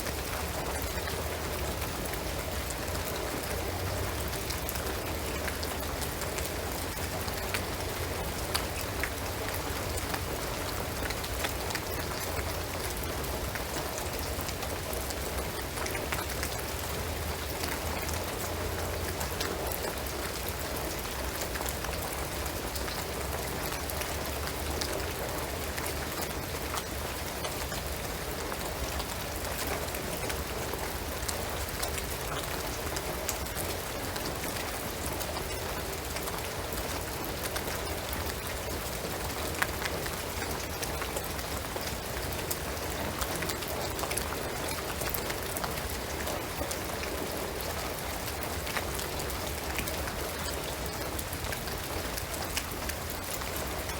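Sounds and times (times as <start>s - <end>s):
rain falling on a roof: 0.0s - 53.9s.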